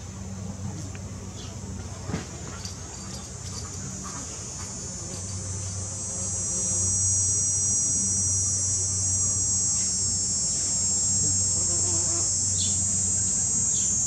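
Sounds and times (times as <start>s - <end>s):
insects buzzing: 0.0s - 14.0s
low steady hum: 0.0s - 14.0s.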